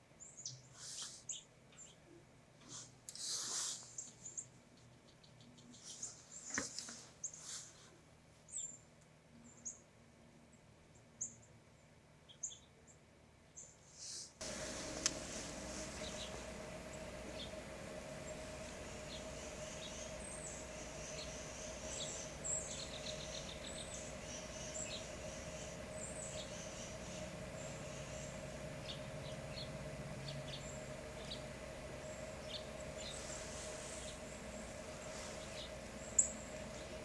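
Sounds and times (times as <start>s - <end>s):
small songbirds chirping: 0.0s - 2.9s, 3.7s - 7.8s, 8.4s - 37.0s
steady low hum: 3.9s - 37.0s.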